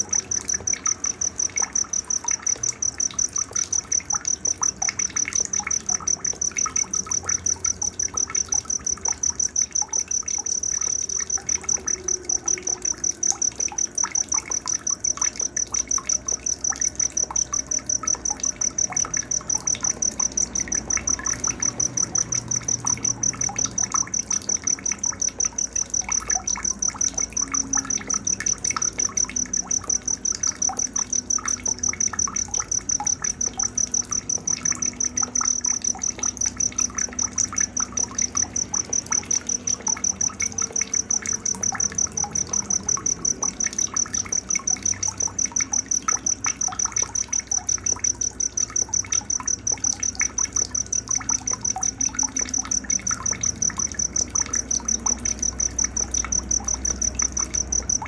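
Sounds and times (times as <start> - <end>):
cricket chirping: 0.0 - 58.0
faint scattered chirps and clicks: 0.0 - 58.0.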